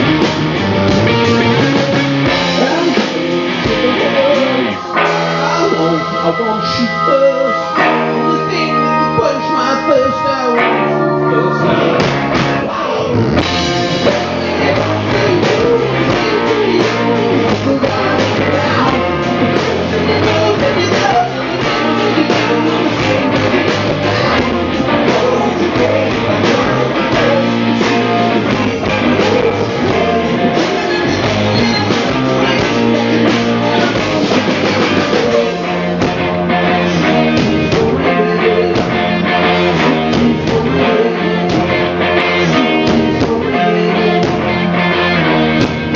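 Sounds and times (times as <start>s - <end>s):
drum kit: 0.0s - 6.7s, 7.5s - 45.9s
rock band guitar: 0.0s - 45.9s
person singing: 1.1s - 45.6s.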